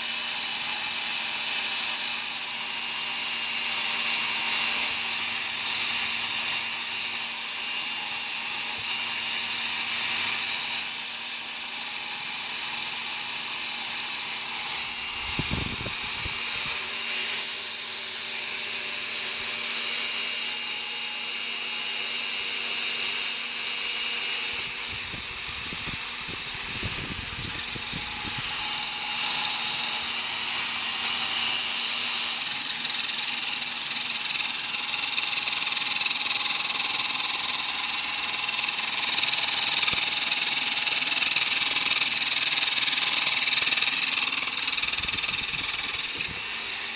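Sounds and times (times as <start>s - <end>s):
electric drill whining: 0.0s - 46.9s.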